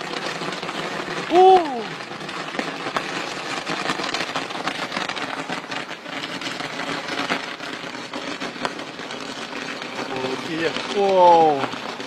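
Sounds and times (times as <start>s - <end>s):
firework crackling and hissing: 0.0s - 12.0s
sharp firework pops: 0.0s - 12.0s.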